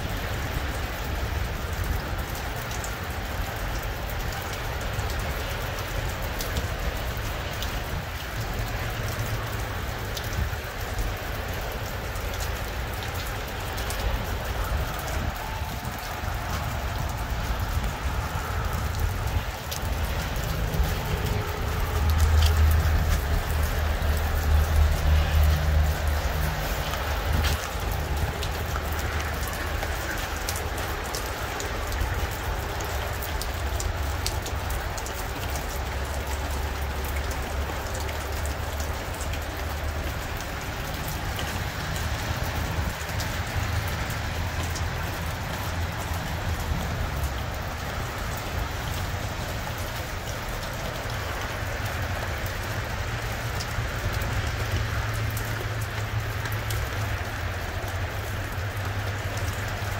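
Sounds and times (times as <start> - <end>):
continuous low rumble: 0.0 - 59.9
rain drops ticking: 0.0 - 59.9.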